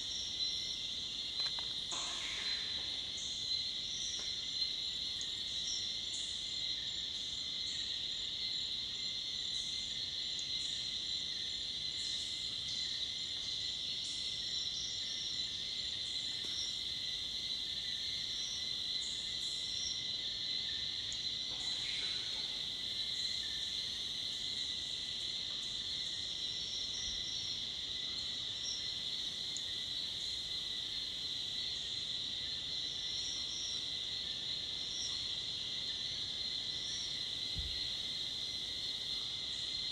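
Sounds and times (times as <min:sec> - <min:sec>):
faint steady tone: 0:00.0 - 0:39.9
high insect chirps: 0:00.0 - 0:39.9
insects buzzing: 0:00.0 - 0:39.9.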